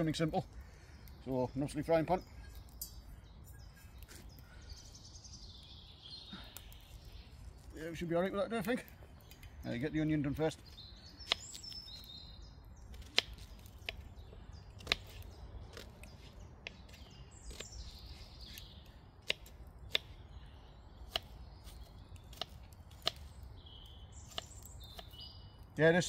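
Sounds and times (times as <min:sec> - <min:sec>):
small birds chirping faintly: 0:00.0 - 0:26.0.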